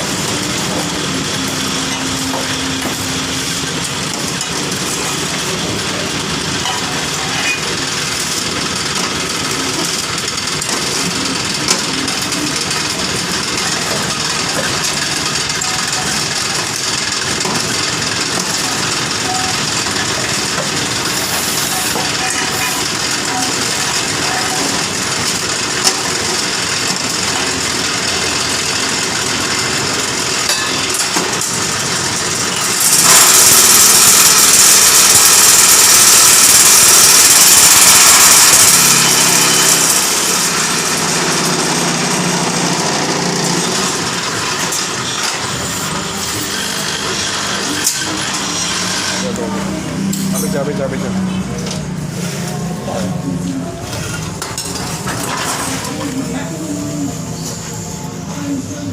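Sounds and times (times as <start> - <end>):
concrete block moulding machine: 0.0 - 58.9.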